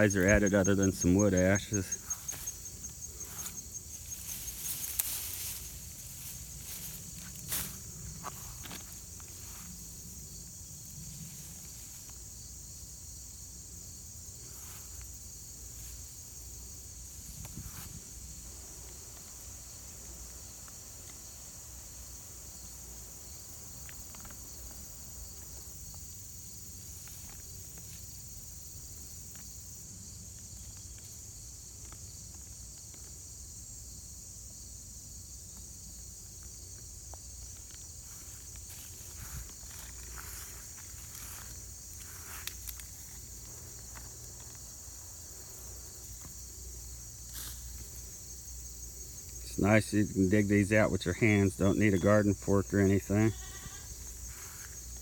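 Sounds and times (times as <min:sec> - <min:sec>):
insect chorus trilling: 0:00.0 - 0:55.0.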